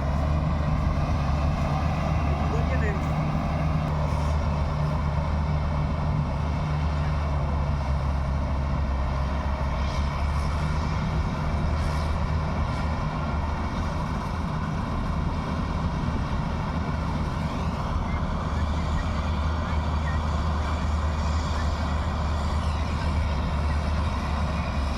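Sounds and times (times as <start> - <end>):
combine harvester engine running: 0.0 - 24.9.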